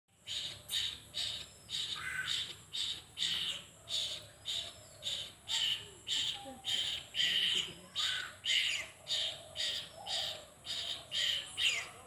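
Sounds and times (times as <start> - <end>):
bird fledgling harsh begging calls: 0.2 - 12.0.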